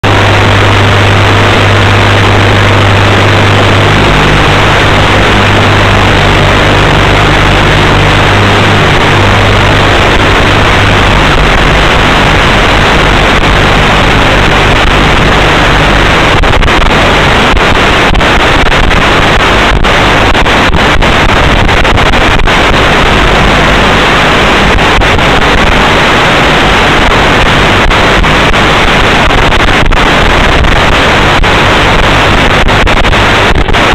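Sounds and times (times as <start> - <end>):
low hum: 0.0 - 33.9
radio signal crackling: 0.0 - 33.9
static hiss: 0.0 - 33.9.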